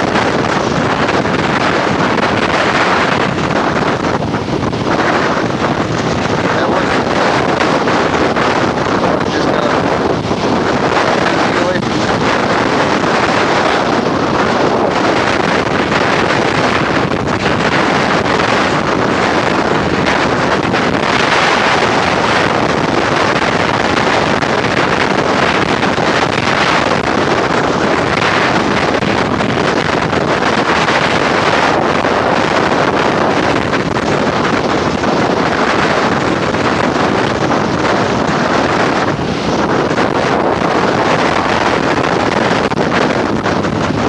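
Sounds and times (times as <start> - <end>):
strong wind blasting microphone: 0.0 - 44.0.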